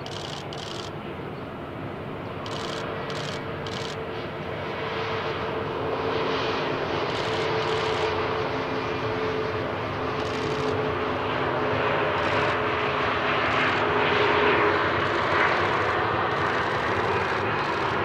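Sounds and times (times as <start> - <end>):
jet engines on runway: 0.0 - 18.0.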